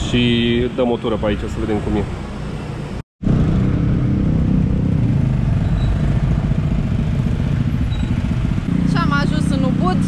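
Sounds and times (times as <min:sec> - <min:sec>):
road and wind rumble: 0:00.0 - 0:10.0.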